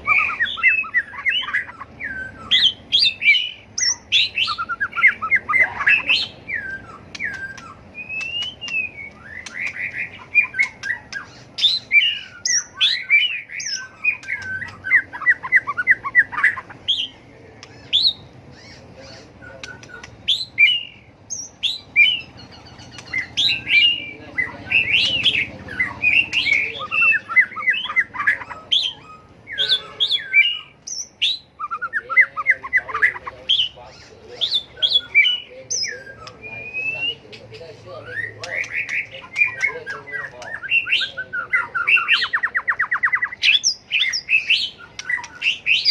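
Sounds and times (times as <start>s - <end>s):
bird singing whistles and chatters: 0.0s - 45.9s.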